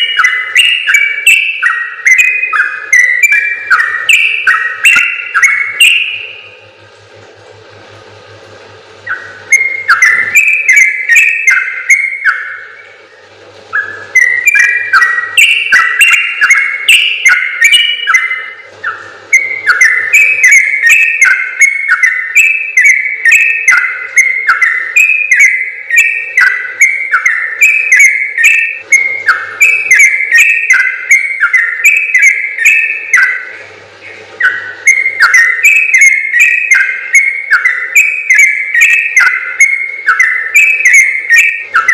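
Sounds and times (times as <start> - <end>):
bird singing bubbly whistles: 0.0 - 6.7, 9.0 - 41.9.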